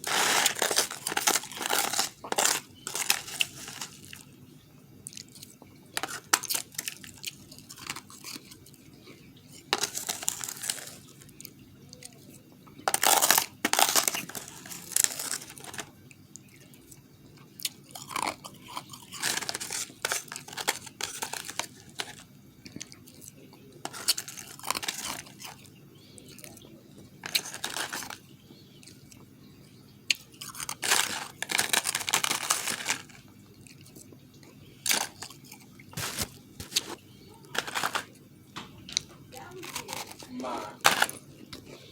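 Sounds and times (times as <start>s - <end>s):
crunching and chewing ice: 0.0s - 41.9s.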